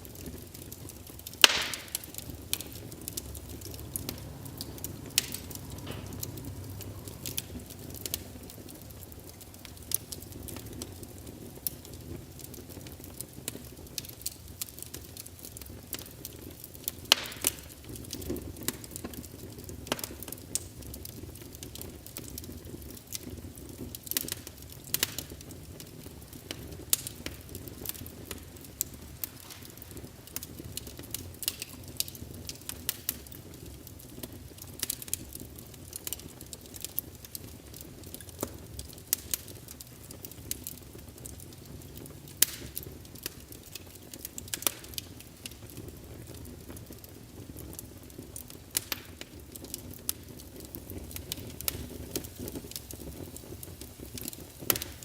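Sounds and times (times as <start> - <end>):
low hiss of flames: 0.0 - 55.0
wood fire crackling and popping: 0.0 - 55.0.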